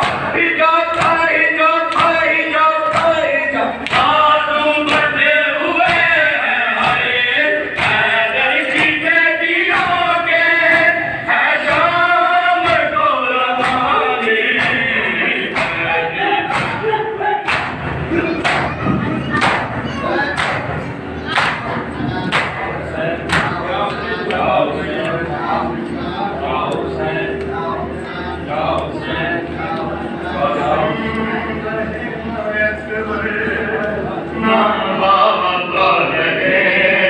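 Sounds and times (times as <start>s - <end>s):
men chanting a lament in chorus: 0.0s - 37.0s.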